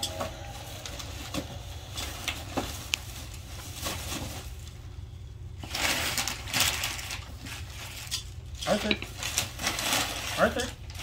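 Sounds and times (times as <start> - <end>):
wrapping paper crinkling: 0.3 - 4.9, 5.6 - 11.0.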